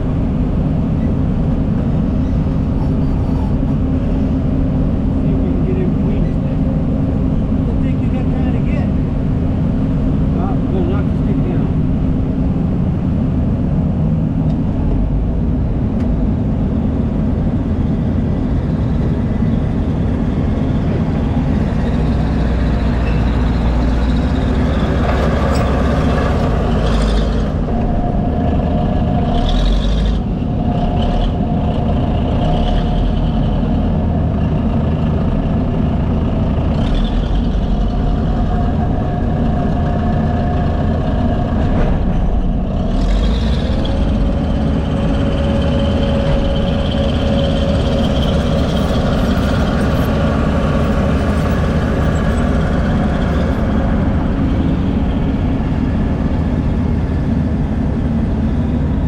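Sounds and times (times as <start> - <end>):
diesel engines rumbling: 0.0 - 59.0.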